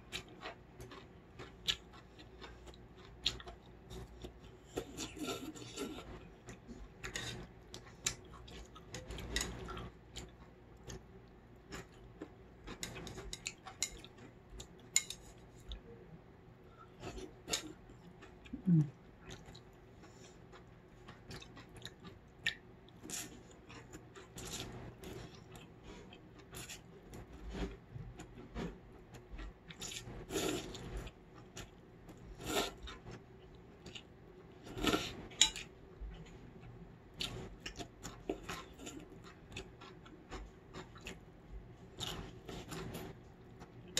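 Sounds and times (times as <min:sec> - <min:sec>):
chewing: 0:00.0 - 0:15.9, 0:16.8 - 0:43.9.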